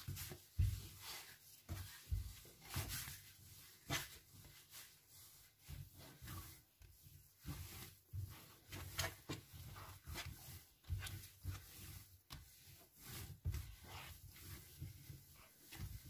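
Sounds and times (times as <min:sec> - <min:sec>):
dough rubbing: 0:00.0 - 0:16.0.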